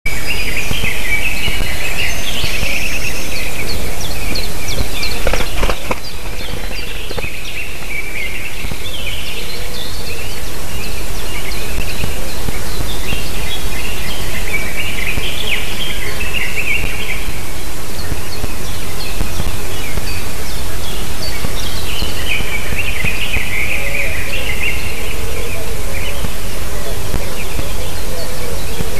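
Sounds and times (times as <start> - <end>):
birds chirping and chattering: 0.1 - 28.9.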